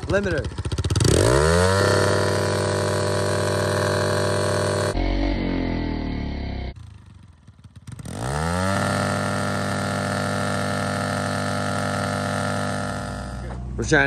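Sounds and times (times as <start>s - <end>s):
engine ticking: 0.0s - 5.0s, 6.8s - 14.0s
dirt bike engine revving: 0.0s - 14.0s.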